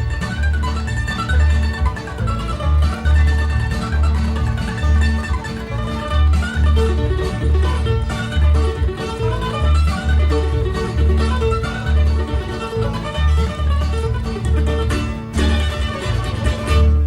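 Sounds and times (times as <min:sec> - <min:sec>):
fiddle tune: 0:00.0 - 0:17.0
guitar and banjo: 0:00.0 - 0:17.0
mandolin lead: 0:00.0 - 0:17.0.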